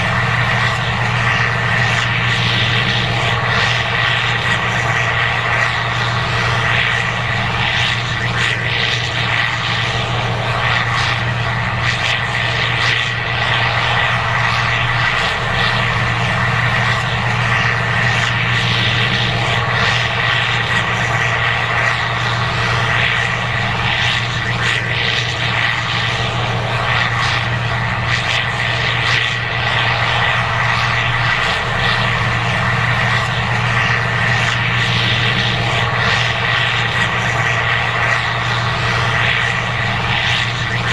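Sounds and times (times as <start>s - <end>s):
combine engine hum: 0.0s - 40.9s
high machine whine: 0.0s - 40.9s.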